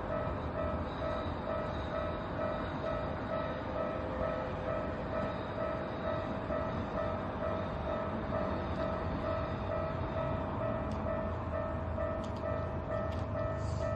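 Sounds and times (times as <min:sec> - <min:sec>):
level-crossing warning bell: 0:00.0 - 0:13.9
train rumbling past: 0:00.0 - 0:13.9.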